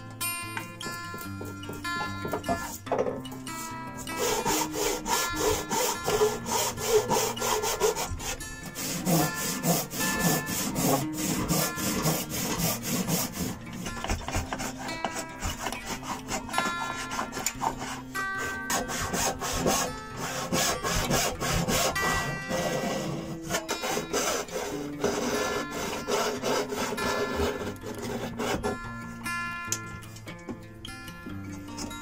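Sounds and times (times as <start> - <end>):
hand saw cutting wood: 1.1 - 29.2.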